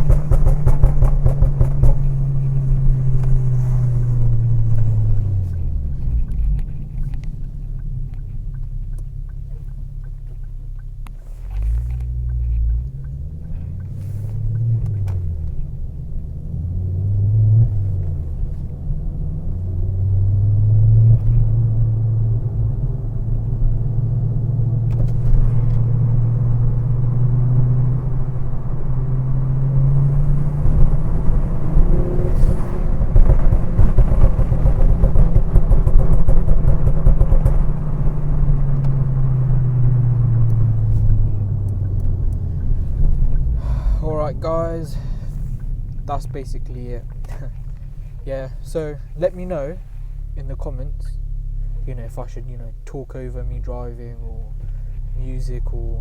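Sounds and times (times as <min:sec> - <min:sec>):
turbocharged car engine: 0:00.0 - 0:56.0.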